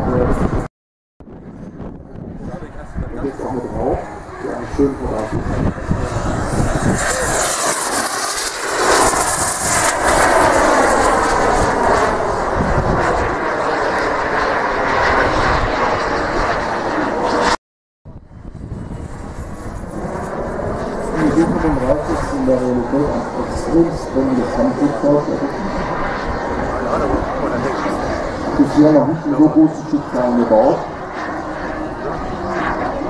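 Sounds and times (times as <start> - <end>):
model jet turbine roar: 1.3 - 33.0.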